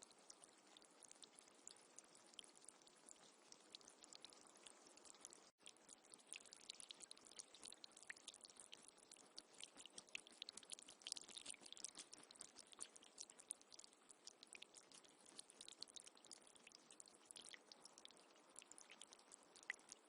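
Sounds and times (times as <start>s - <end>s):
faint running water: 0.0s - 20.0s.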